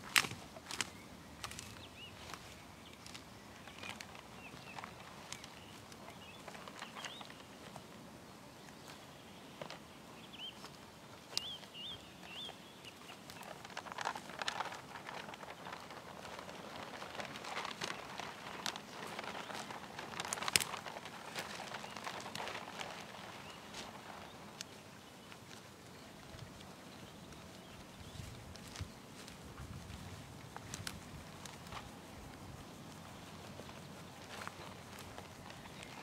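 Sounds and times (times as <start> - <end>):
footsteps on dry brush: 0.0 - 7.9, 10.5 - 36.0
paper rustling and crackling: 0.0 - 7.9, 10.6 - 36.0
small birds chirping: 0.0 - 36.0.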